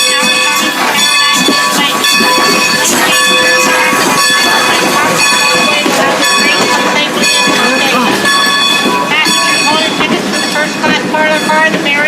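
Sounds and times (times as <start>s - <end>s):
rumble of moving train: 0.0s - 12.0s
steam locomotive ringing tones: 0.0s - 12.0s.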